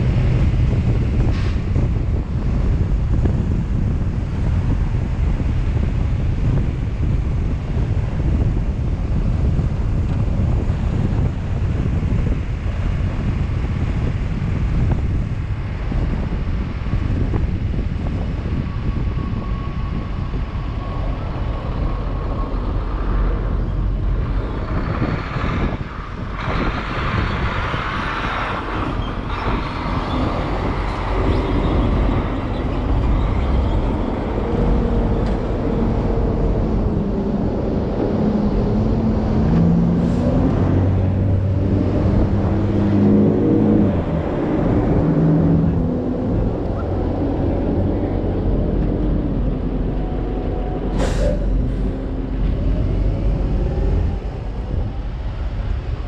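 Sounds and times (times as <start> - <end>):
road traffic noise: 0.0 - 56.0
wind rumbling on microphone: 0.0 - 56.0.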